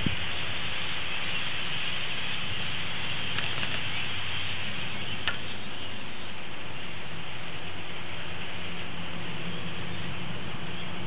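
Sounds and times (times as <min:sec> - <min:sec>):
flock of blackbirds calling: 0:00.0 - 0:11.0.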